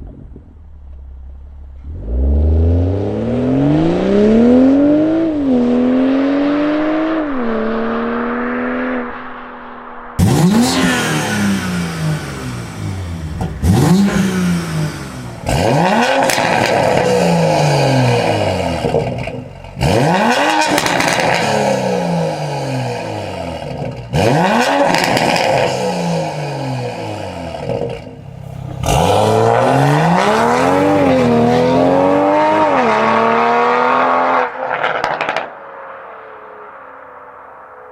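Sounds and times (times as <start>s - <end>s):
car engine revving: 0.0s - 35.5s.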